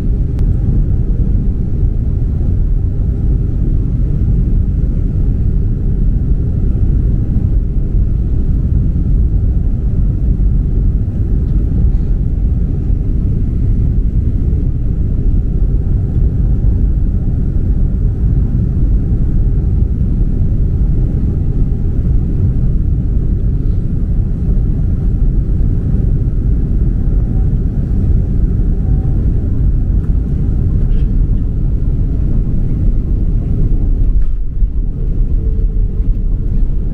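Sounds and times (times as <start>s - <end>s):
jet engine rumble in cabin: 0.0s - 36.9s.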